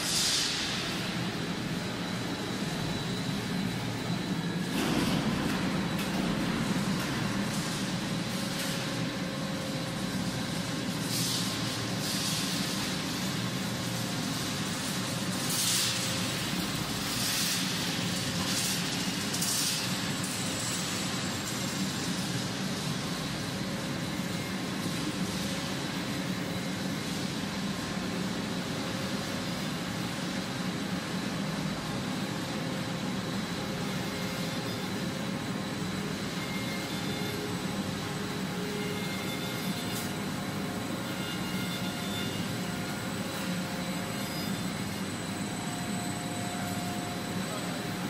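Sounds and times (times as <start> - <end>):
machinery humming with high whine: 0.0 - 48.0.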